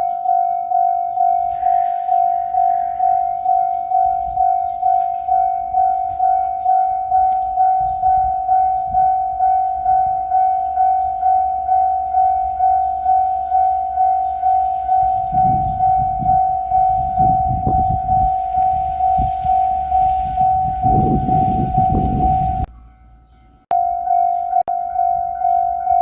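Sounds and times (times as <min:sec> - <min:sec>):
diesel railcar rumble: 0:00.0 - 0:26.0
level-crossing alarm ringing: 0:00.0 - 0:26.0.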